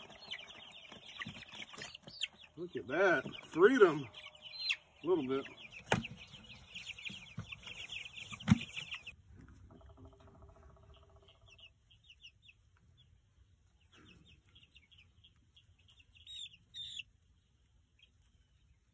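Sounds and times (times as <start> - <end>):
chicks peeping: 0.0 - 18.9.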